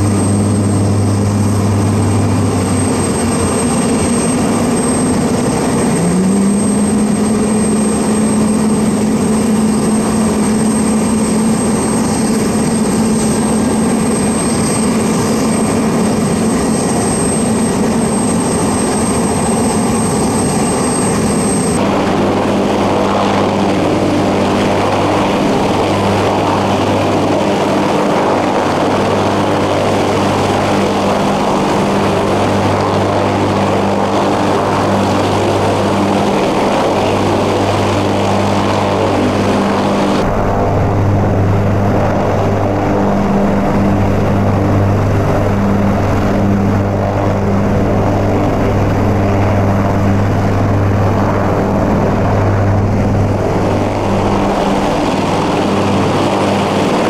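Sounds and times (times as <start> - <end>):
helicopter engines and rotors droning: 0.0 - 57.0.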